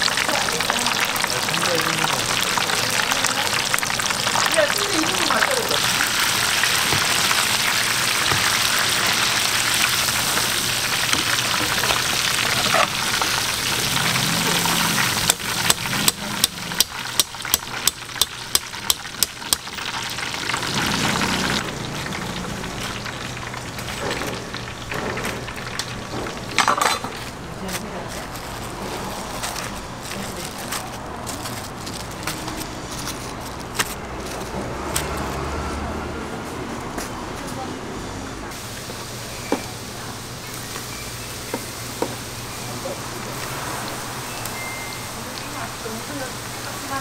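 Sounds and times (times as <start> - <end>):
fritters sizzling in hot oil: 0.0 - 36.6, 38.5 - 47.0.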